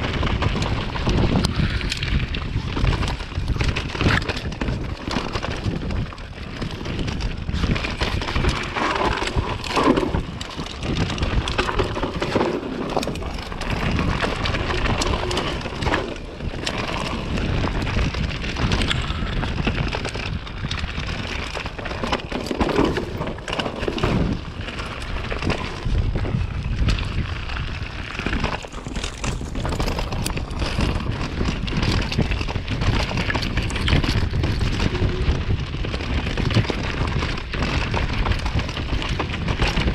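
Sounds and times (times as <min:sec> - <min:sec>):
bike rattling and knocking: 0:00.0 - 0:39.9
bike tyres rolling over dirt: 0:00.0 - 0:39.9
wind on microphone: 0:00.0 - 0:39.9.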